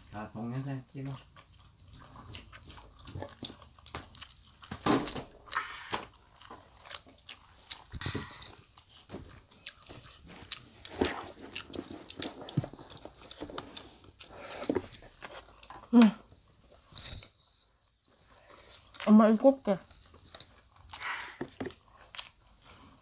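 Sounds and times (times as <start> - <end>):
chewing fish cake: 0.6 - 17.4, 18.1 - 19.2, 19.8 - 23.0.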